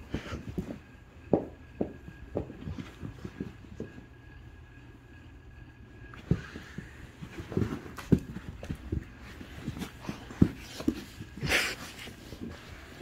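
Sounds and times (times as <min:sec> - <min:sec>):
dogs' paws thumping and scuffling: 0:00.0 - 0:13.0.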